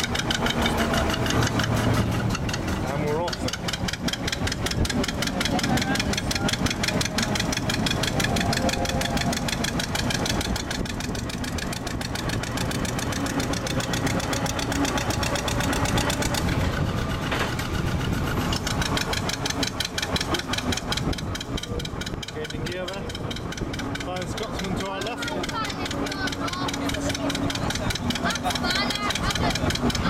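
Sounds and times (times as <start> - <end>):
diesel locomotive engine knocking: 0.0 - 30.0.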